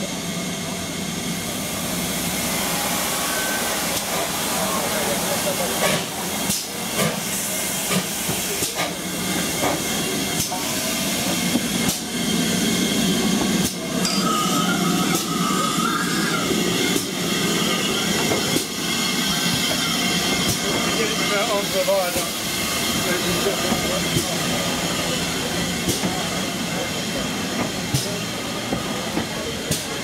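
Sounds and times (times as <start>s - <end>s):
steam hissing: 0.0s - 30.0s
steam locomotive: 0.0s - 30.0s.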